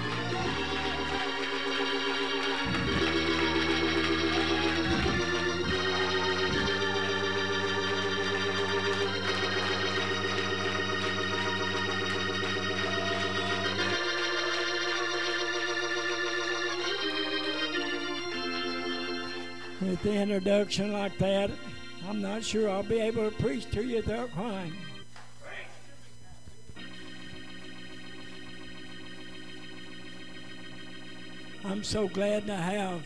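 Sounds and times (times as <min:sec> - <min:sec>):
organ playing chords: 0:00.0 - 0:33.0.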